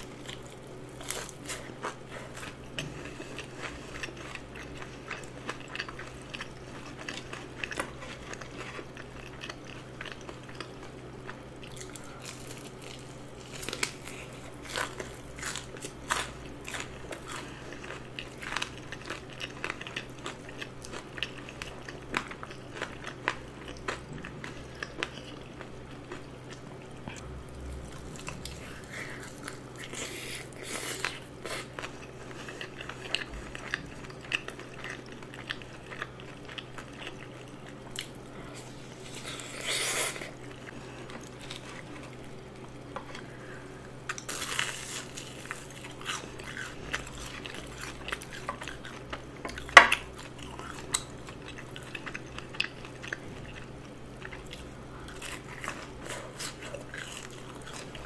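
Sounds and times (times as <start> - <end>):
crunchy chewing of fried chicken: 0.0 - 58.0.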